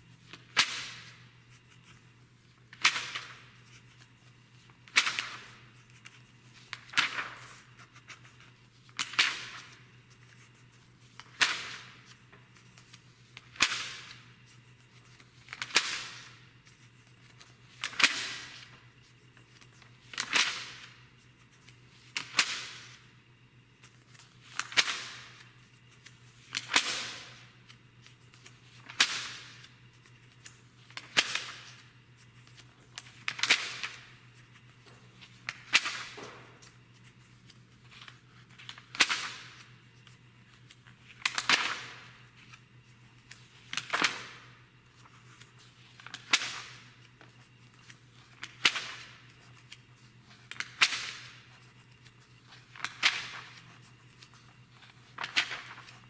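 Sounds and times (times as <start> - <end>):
magazine pages turning: 0.0 - 23.0, 23.7 - 56.0.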